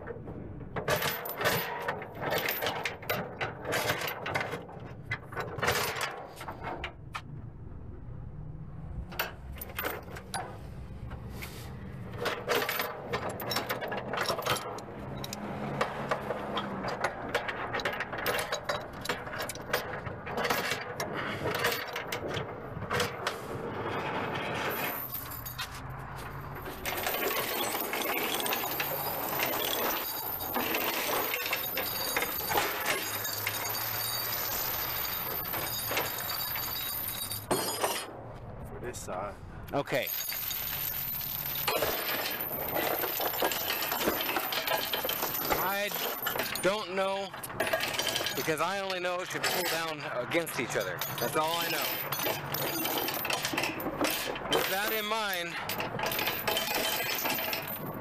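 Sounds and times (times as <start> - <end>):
steel chain clanking: 0.8 - 7.0, 12.0 - 38.2, 39.9 - 58.0.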